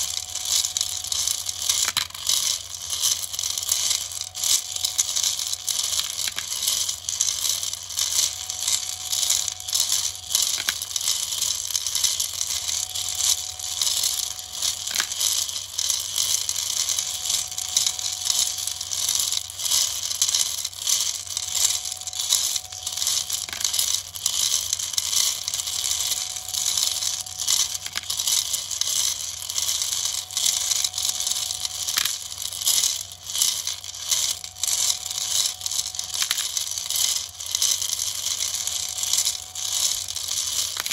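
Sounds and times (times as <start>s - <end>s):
metal nuts rattling in drum: 0.0s - 40.9s
stepper motor whine: 0.0s - 40.9s.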